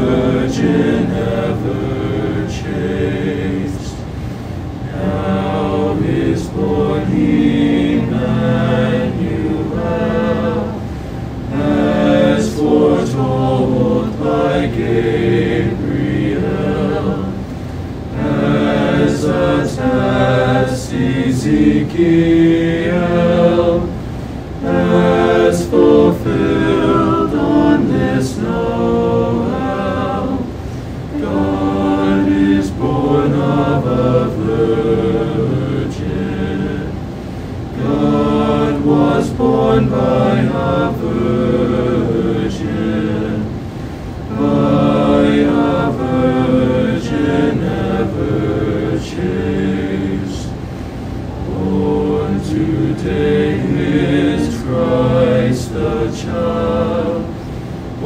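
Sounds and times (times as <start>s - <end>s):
boys singing in harmony: 0.0s - 58.0s.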